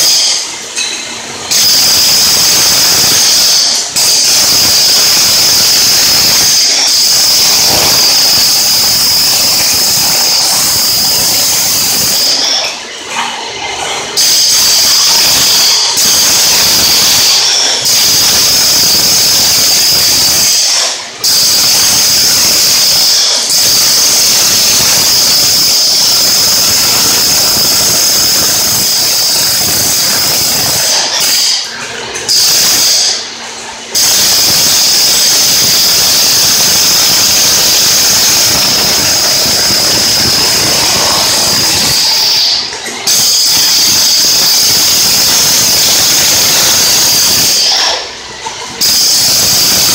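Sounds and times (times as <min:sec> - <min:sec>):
demolition hammer chiseling tile: 0:00.0 - 0:33.3, 0:33.9 - 0:49.9.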